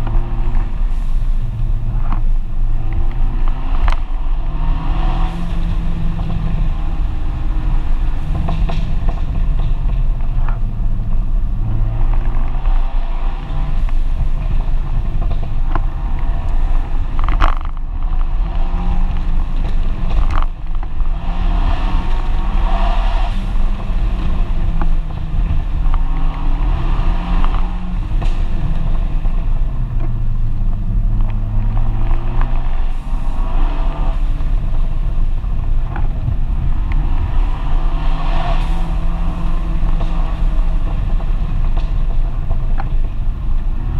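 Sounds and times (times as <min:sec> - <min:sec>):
car engine under hard acceleration: 0:00.0 - 0:43.9.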